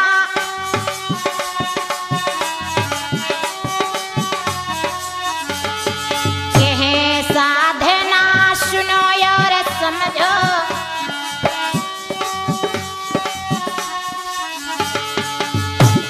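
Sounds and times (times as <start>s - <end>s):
dholak drum strokes: 0.0s - 16.0s.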